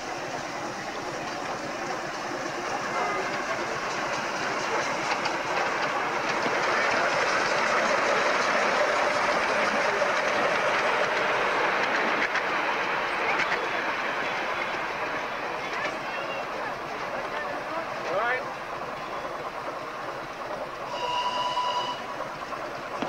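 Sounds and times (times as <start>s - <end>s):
steam locomotive hissing: 0.0s - 23.0s
wheels clicking over rail joints: 0.0s - 23.0s.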